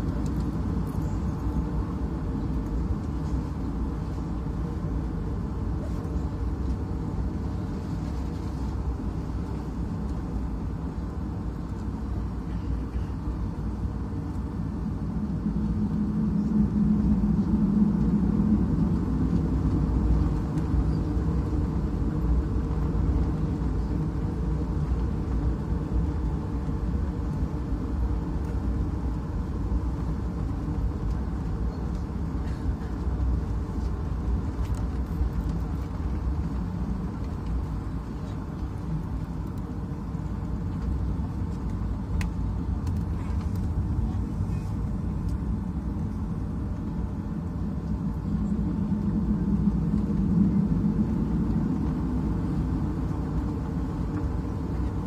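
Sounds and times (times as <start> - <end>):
aircraft cabin rumble: 0.0 - 55.0.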